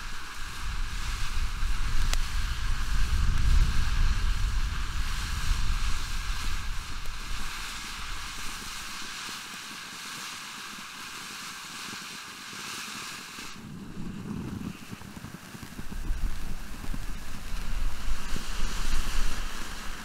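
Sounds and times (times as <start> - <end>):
firework fountain hissing: 0.0 - 20.0.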